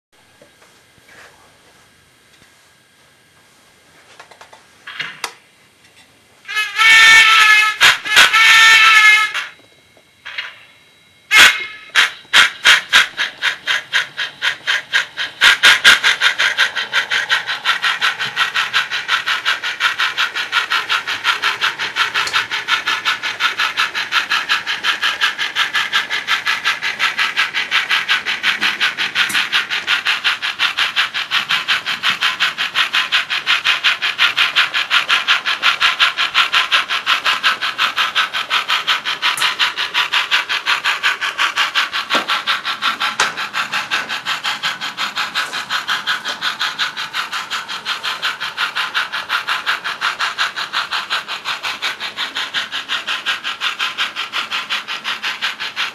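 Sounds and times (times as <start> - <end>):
model steam locomotive chuffing: 4.2 - 55.9.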